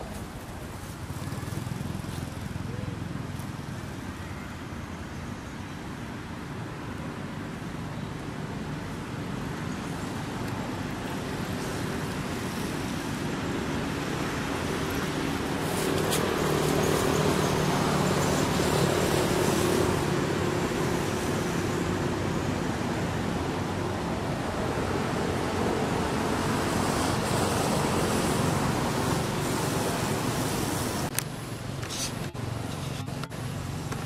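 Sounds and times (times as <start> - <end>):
road traffic noise: 0.0 - 34.0
engine low hum: 5.8 - 34.0.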